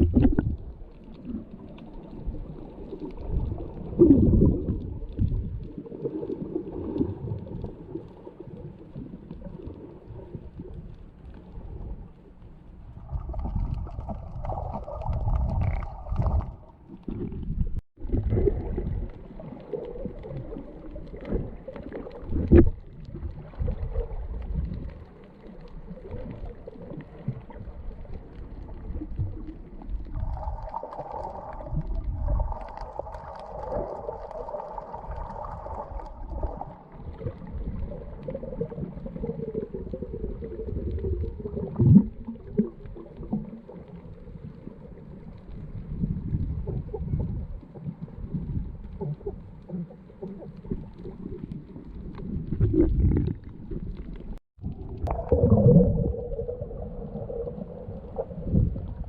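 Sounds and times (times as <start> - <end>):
underwater sloshing and gurgling: 0.0 - 59.0.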